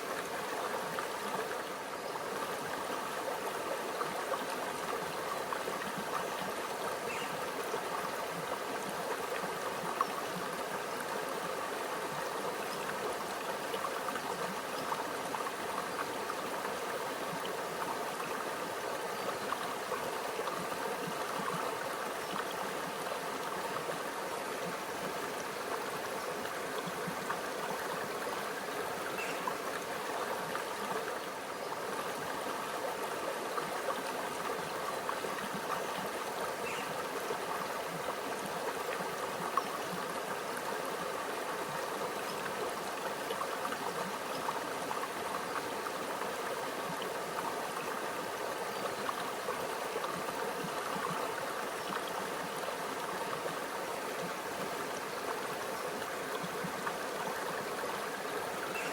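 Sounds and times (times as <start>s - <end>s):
stream trickling over rocks: 0.0s - 58.9s.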